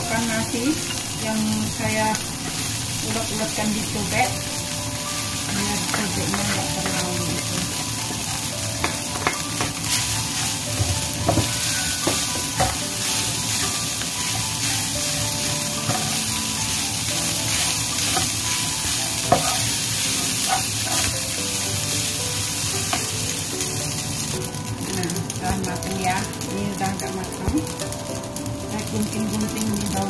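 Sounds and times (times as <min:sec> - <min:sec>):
rice sizzling in a frying pan: 0:00.0 - 0:30.0.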